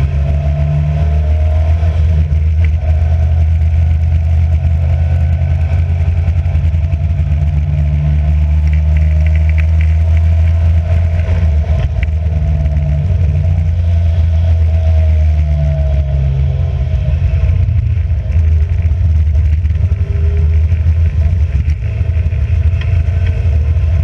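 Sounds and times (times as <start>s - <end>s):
racing car engine running: 0.0s - 24.0s.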